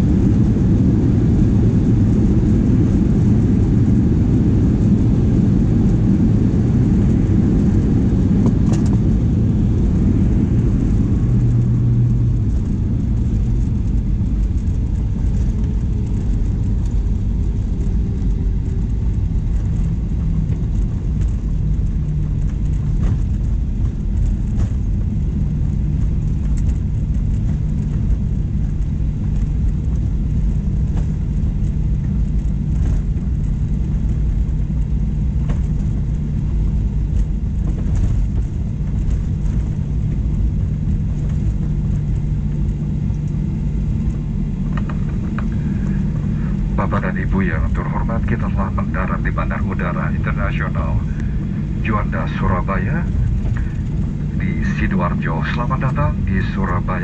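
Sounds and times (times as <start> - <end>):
aircraft engines and airflow rumble: 0.0 - 57.0.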